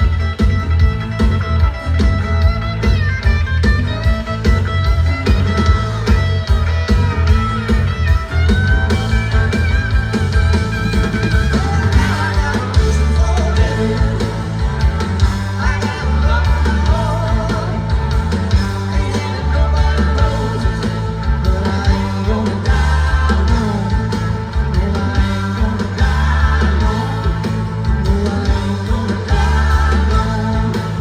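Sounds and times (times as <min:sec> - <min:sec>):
live rock band music: 0:00.0 - 0:31.0.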